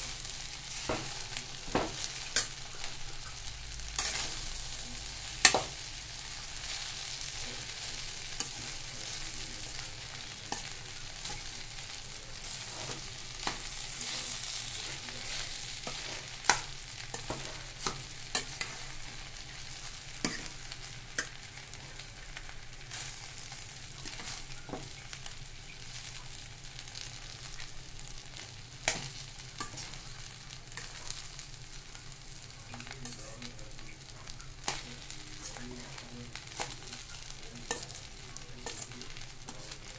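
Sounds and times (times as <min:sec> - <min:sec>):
rice sizzling in a pan: 0:00.0 - 0:39.9.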